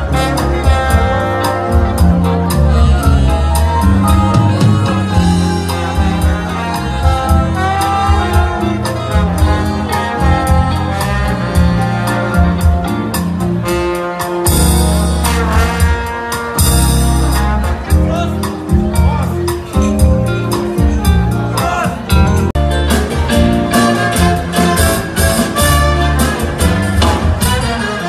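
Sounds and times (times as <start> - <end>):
live band music: 0.0 - 28.0.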